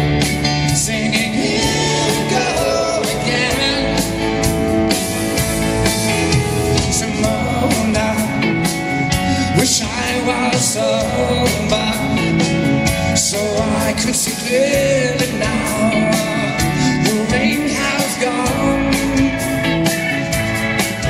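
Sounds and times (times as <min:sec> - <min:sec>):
drums: 0:00.0 - 0:21.0
live pop-rock band: 0:00.0 - 0:21.0
piano: 0:00.0 - 0:21.0
person singing: 0:00.6 - 0:04.6, 0:06.6 - 0:21.0.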